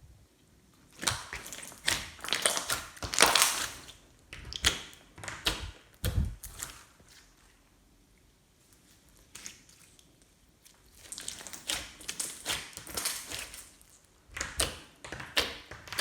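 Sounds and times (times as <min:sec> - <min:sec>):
hands squishing slime: 0:00.8 - 0:07.6, 0:08.7 - 0:16.0.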